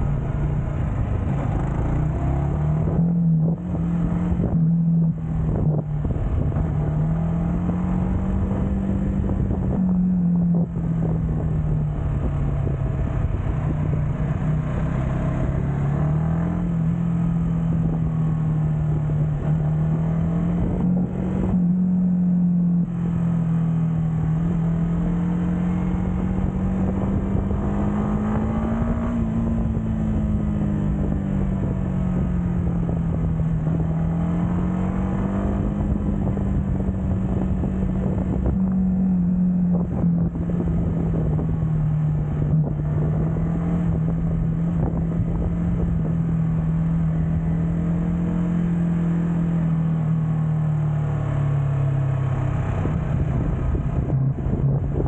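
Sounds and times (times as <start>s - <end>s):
wind rushing over microphone: 0.0s - 49.9s, 51.3s - 55.0s
motorcycle engine cruising: 0.0s - 55.0s.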